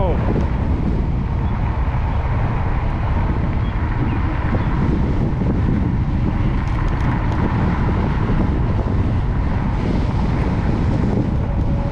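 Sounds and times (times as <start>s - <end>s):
wind rumble on microphone: 0.0s - 11.9s.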